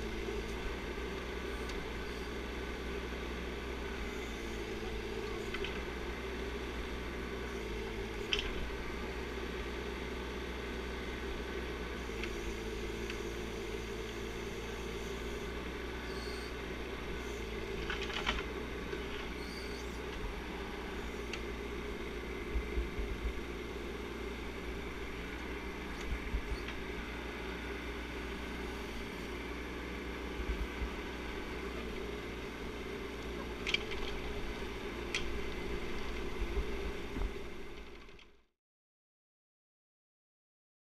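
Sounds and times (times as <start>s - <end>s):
diesel engine running: 0.0s - 38.3s.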